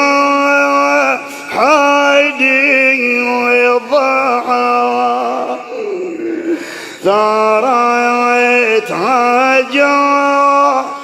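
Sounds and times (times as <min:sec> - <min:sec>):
man chanting a mourning lament: 0:00.0 - 0:11.0.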